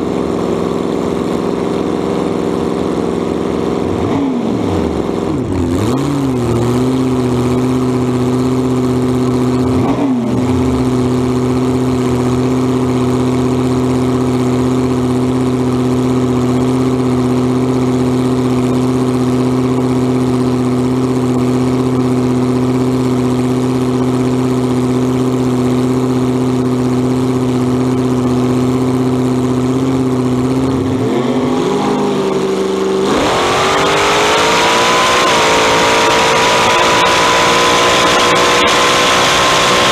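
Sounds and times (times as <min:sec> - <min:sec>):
dragster engine idling and revving: 0:00.0 - 0:39.9.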